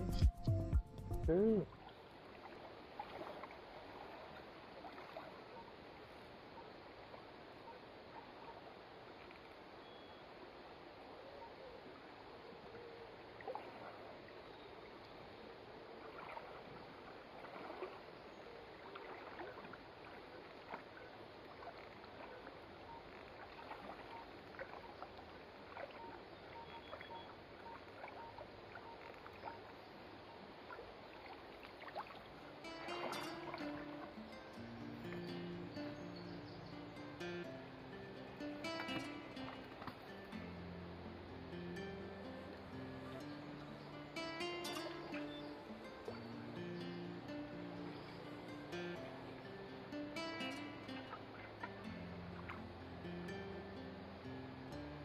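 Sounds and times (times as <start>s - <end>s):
people wading and digging: 0.0s - 55.0s
shallow river flowing: 1.1s - 55.0s.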